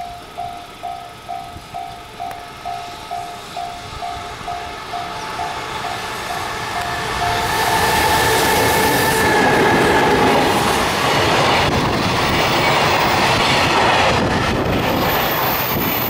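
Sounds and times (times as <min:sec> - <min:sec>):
freight train running: 0:00.0 - 0:16.0.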